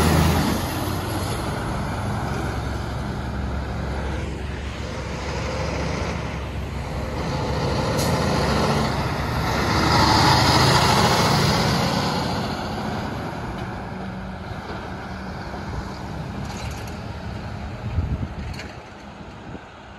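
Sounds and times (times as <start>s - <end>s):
diesel truck driving past: 0.0s - 19.9s.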